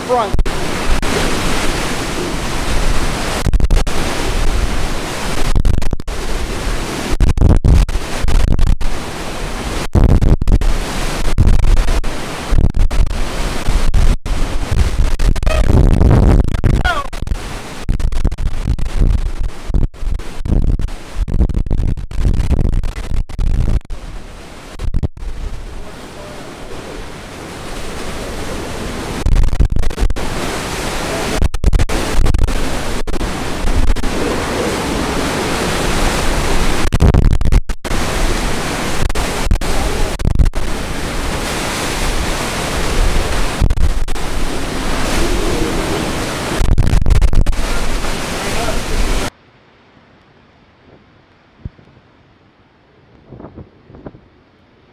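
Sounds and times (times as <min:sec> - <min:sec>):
wind gusts buffeting microphone: 0:00.0 - 0:49.3, 0:53.1 - 0:54.4
hurricane wind and rain: 0:00.0 - 0:54.9.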